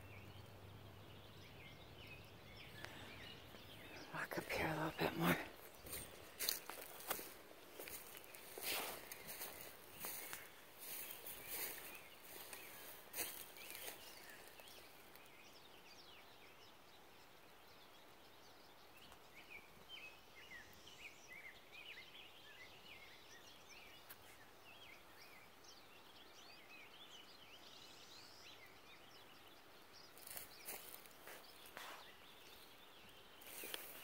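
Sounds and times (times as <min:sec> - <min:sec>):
small songbirds chirping: 0:00.0 - 0:34.0.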